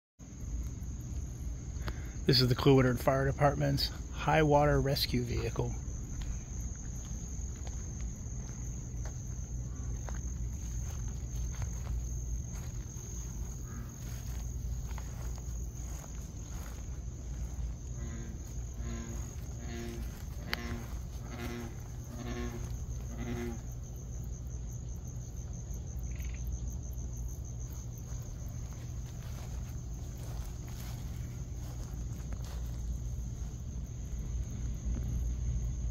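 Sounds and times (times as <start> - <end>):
crickets trilling: 0.2 - 35.9
low hum: 0.2 - 35.9.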